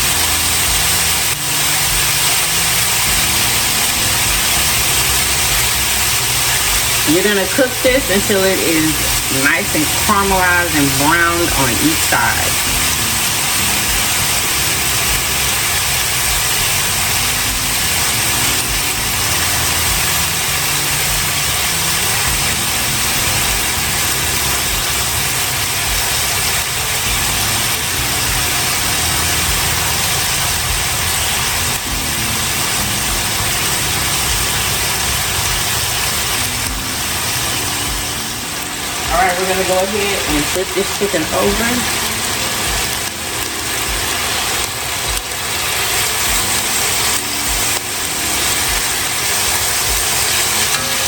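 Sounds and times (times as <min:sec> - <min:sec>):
chicken sizzling in oil: 0:00.0 - 0:51.0.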